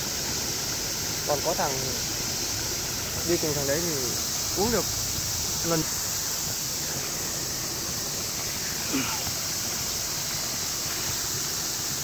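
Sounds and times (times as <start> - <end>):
water pouring over ledge: 0.0 - 12.0.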